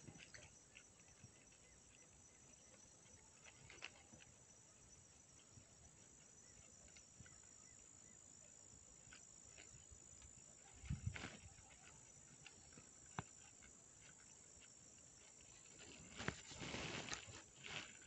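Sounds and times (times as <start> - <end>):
faint ticks: 0.0 - 16.8.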